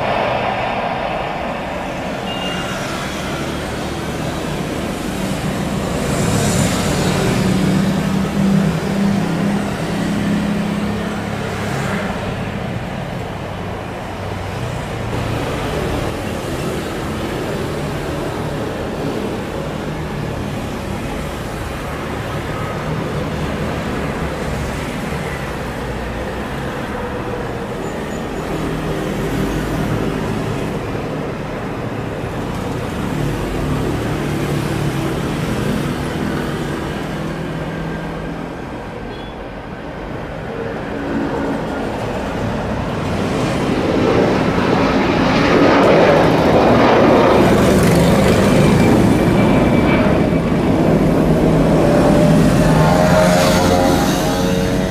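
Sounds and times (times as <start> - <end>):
jet engines taking off: 0.0 - 54.9.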